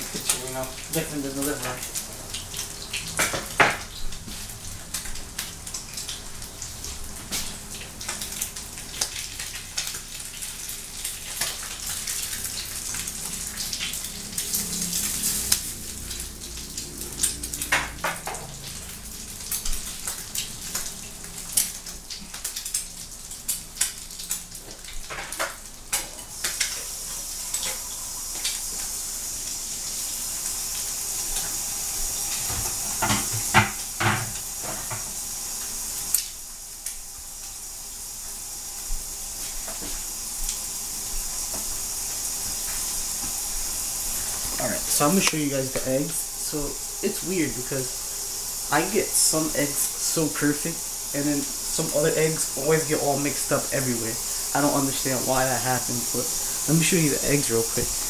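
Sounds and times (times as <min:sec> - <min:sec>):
eggs sizzling in a skillet: 0:00.0 - 0:58.0.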